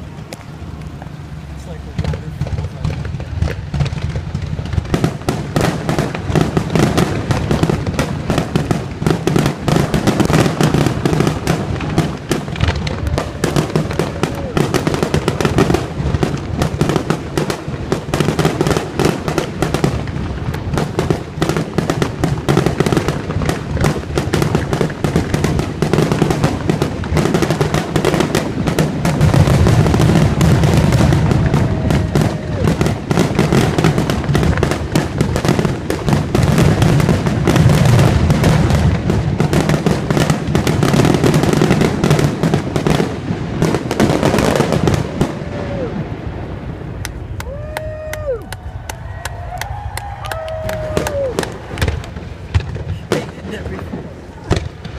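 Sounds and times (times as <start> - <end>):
continuous rumble: 0.0 - 54.9
fireworks bangs and crackles: 0.0 - 54.9.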